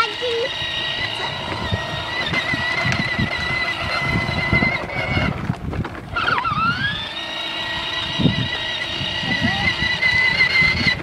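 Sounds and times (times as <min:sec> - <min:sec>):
electric motor whining: 0:00.0 - 0:11.0
plastic wheels rumbling on asphalt: 0:00.0 - 0:11.0.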